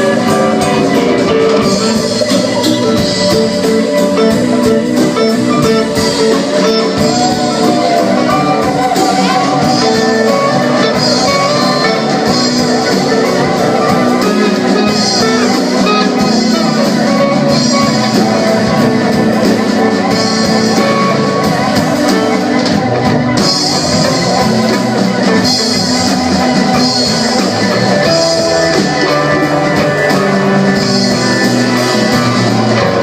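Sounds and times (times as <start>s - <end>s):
drum beat: 0.0s - 33.0s
electric guitar: 0.0s - 33.0s
live band music: 0.0s - 33.0s.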